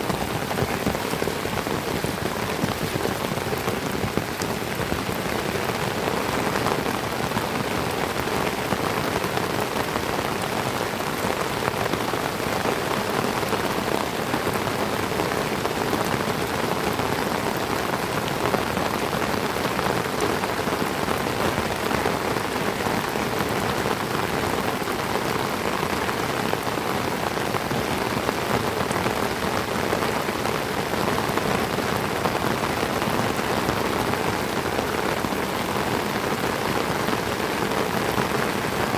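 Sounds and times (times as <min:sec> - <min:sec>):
heavy rain falling on trees: 0:00.0 - 0:38.9.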